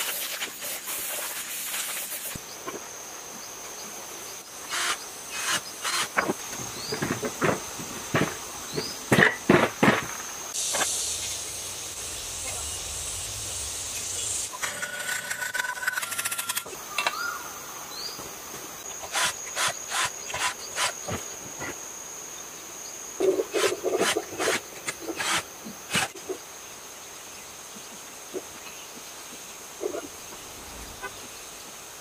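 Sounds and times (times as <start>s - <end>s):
high insect buzz: 0.0s - 9.1s, 9.7s - 28.4s.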